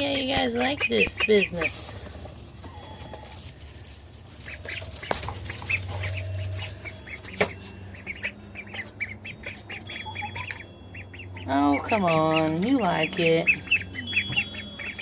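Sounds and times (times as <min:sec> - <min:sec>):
ducks calling: 0:00.2 - 0:15.0.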